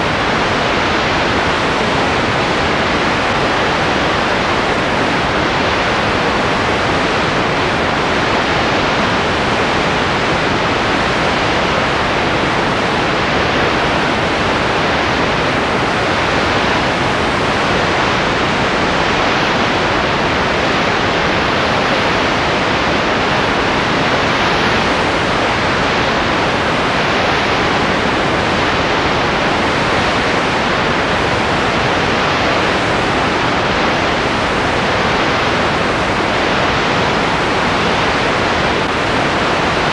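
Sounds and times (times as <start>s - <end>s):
loud steady hiss: 0.0s - 39.9s.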